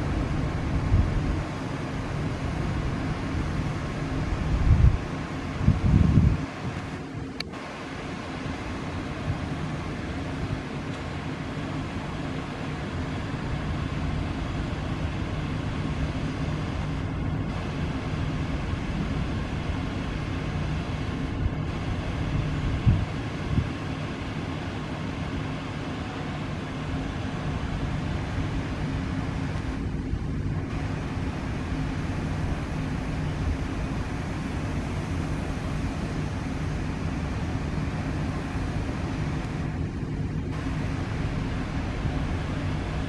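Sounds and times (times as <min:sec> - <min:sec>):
electric train rolling hum: 0:00.0 - 0:43.0.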